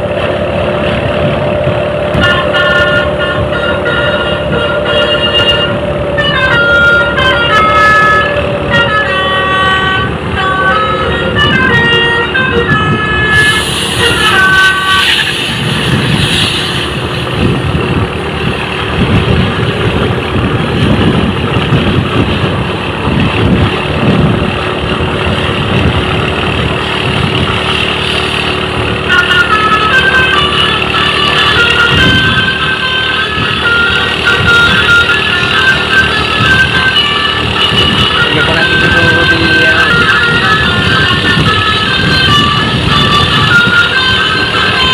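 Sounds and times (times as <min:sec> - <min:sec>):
bus multi-tone horn tune: 0:00.0 - 0:44.9
heavy bus engine rumble: 0:00.0 - 0:44.9
road noise: 0:00.0 - 0:44.9.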